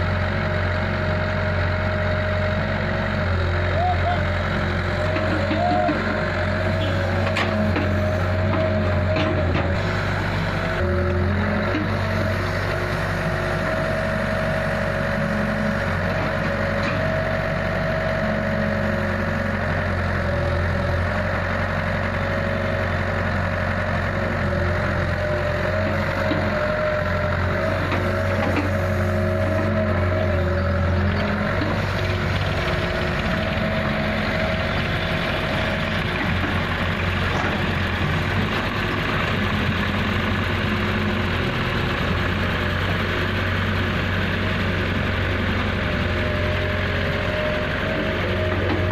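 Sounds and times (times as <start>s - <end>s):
excavator diesel engine working: 0.0s - 48.9s
tractors idling: 0.0s - 48.9s.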